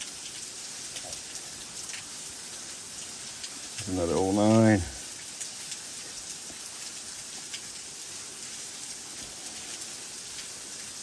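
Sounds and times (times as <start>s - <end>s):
hiss of falling water: 0.0s - 11.0s.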